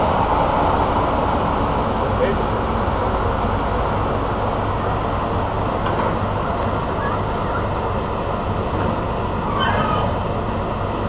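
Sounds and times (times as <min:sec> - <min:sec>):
locomotive rumbling: 0:00.0 - 0:11.0.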